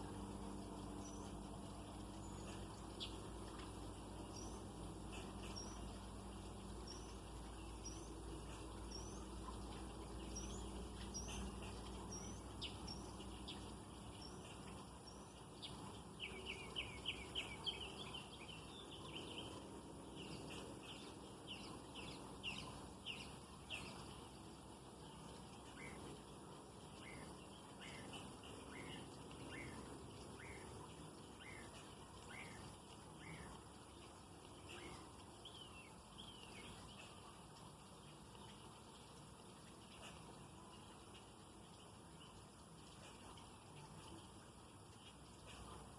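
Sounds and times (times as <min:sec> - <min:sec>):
faint low hum: 0:00.0 - 0:45.9
small birds chirping: 0:00.0 - 0:45.9.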